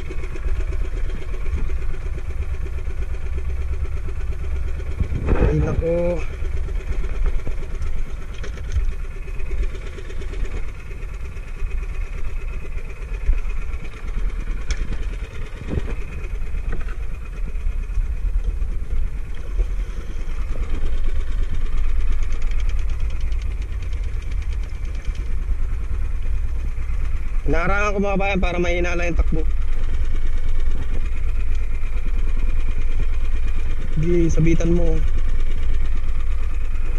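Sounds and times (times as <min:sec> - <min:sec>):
boat engine rumbling: 0:00.0 - 0:36.9
water rushing along hull: 0:00.0 - 0:36.9.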